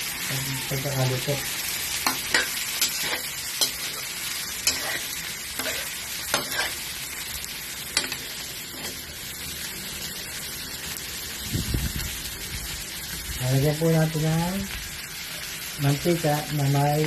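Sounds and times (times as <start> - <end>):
shrimp sizzling in a wok: 0.0 - 17.0.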